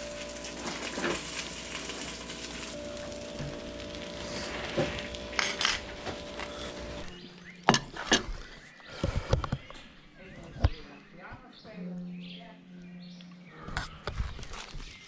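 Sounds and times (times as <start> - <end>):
steady hum: 0.0 - 14.9.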